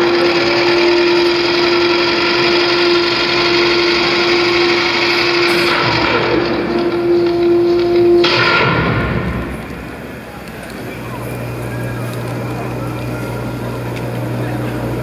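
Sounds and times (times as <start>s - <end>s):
mechanical buzzing drone: 0.0s - 15.0s.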